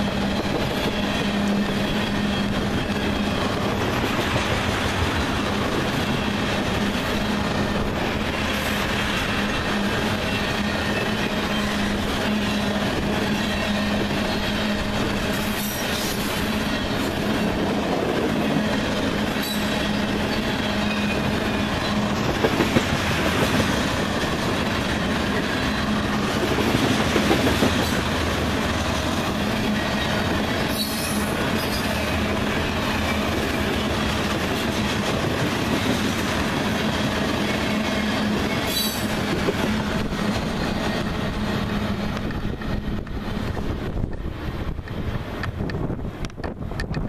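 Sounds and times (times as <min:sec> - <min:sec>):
freight train wheels rumbling and clattering: 0:00.0 - 0:47.0.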